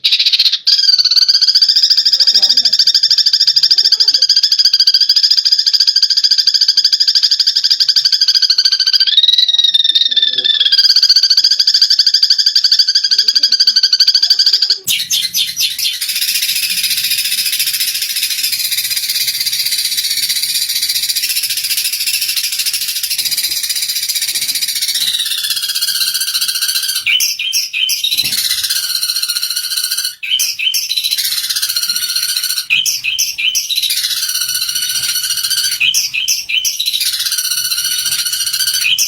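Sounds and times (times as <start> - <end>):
sparrows chattering: 0.0 - 39.0.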